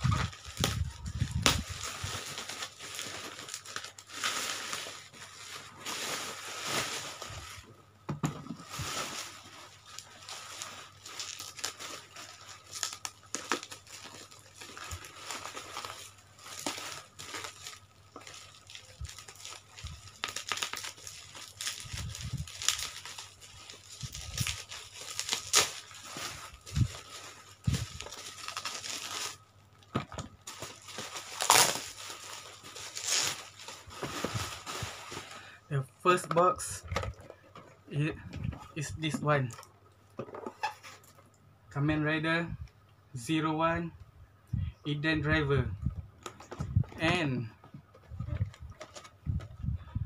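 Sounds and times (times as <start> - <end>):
plastic packaging crinkling: 0.0 - 7.7, 8.5 - 41.4, 47.9 - 49.5.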